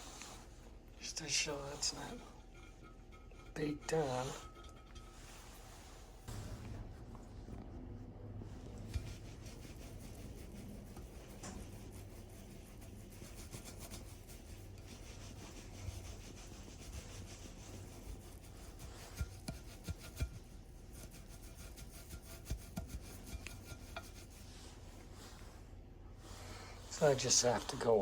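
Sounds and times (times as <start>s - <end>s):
soft rubbing at food residue: 0.0s - 28.0s.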